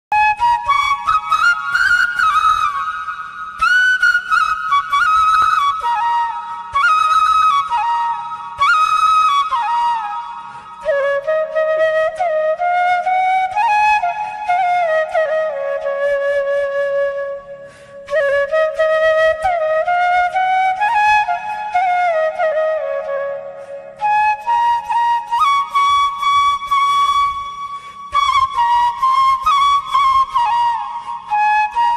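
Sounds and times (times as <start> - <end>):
solo flute slow melody: 0.1 - 31.9.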